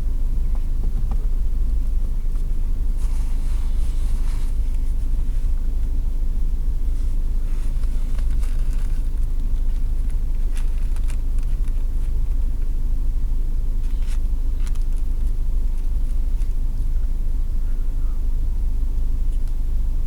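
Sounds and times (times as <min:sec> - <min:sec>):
car engine rumble inside cabin: 0:00.0 - 0:20.0.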